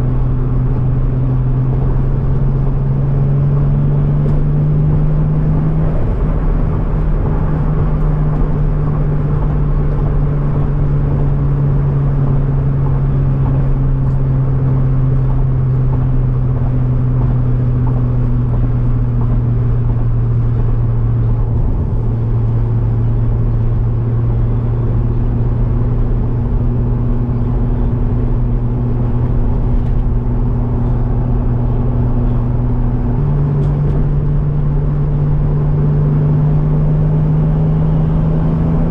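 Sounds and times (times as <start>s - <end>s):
car engine drone: 0.0s - 38.9s
road noise: 0.0s - 38.9s.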